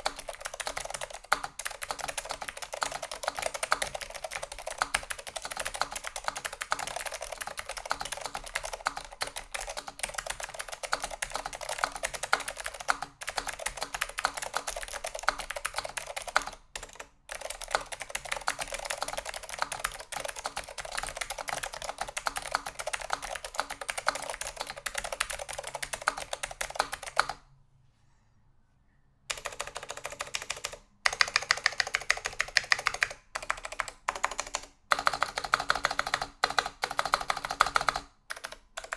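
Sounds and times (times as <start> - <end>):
fast typing on clicky keyboard: 0.0 - 27.4, 29.3 - 38.9.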